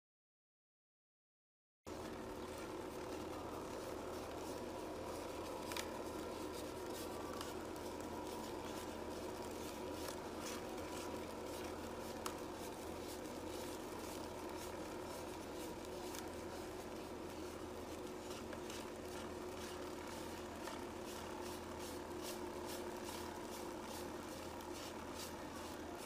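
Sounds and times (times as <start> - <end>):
cotton candy machine motor hum: 1.9 - 26.0.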